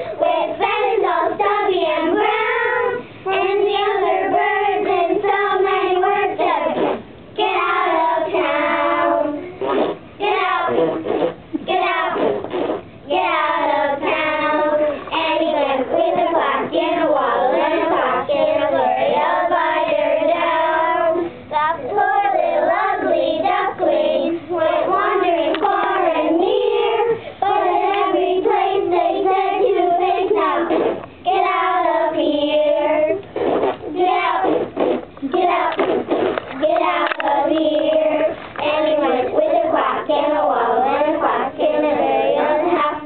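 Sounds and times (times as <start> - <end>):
young children singing: 0.0 - 43.0.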